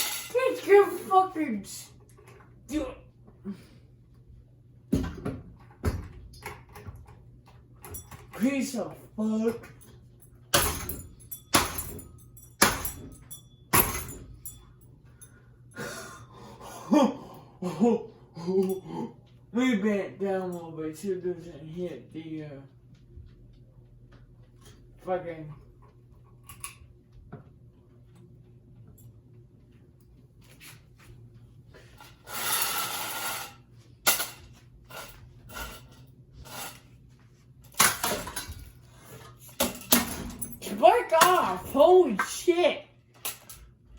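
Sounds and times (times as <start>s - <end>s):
ceiling fan humming: 0.0s - 43.9s.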